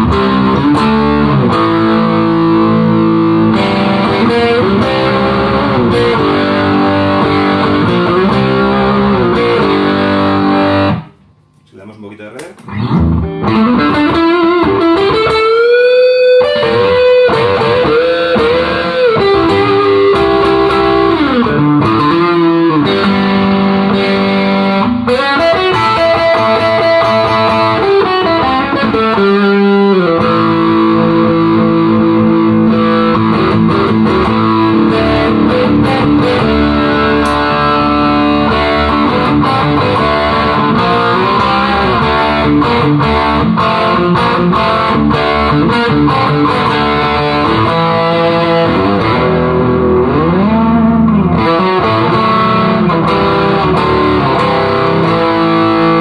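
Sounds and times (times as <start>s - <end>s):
electric guitar lead with bends: 0.0s - 11.3s, 12.6s - 56.0s.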